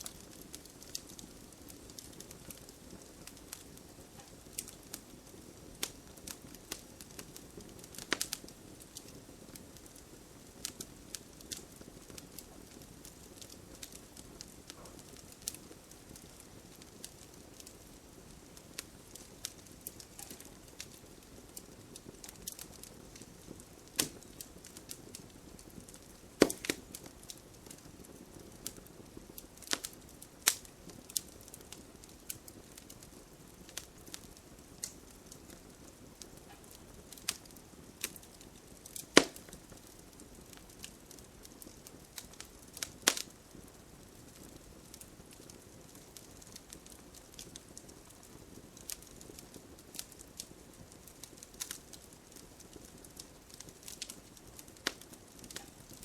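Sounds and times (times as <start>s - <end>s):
campfire hissing: 0.0s - 56.0s
fire crackles and pops: 0.0s - 56.0s.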